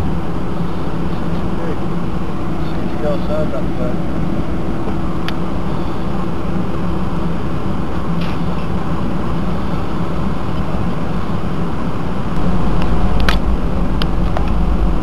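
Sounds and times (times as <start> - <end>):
aircraft cabin engine drone: 0.0 - 15.0.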